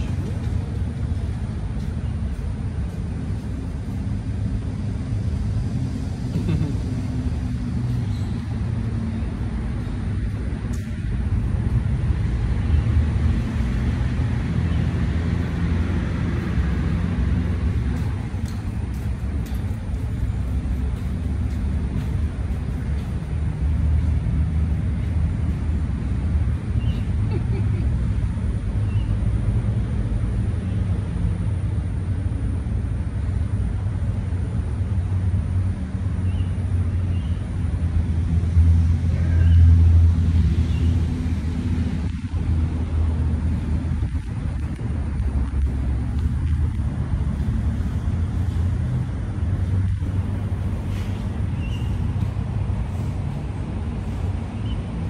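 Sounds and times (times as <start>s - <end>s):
low mechanical drone with hum: 0.0s - 55.0s
low outdoor rumble: 0.0s - 55.0s.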